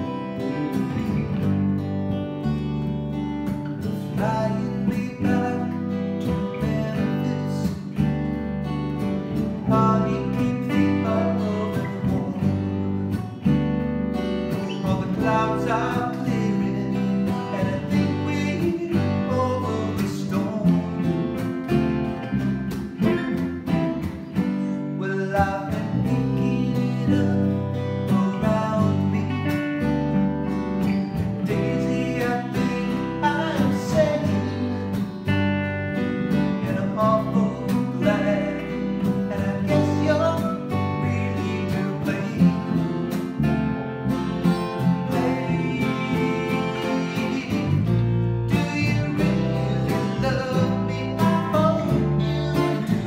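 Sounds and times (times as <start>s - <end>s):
man singing: 0.0s - 1.5s, 3.8s - 8.2s, 9.3s - 13.5s, 14.5s - 22.2s, 24.0s - 30.2s, 30.8s - 35.4s, 36.4s - 43.4s, 44.4s - 53.0s
acoustic guitars playing: 0.0s - 53.0s
bass guitar playing: 0.0s - 53.0s.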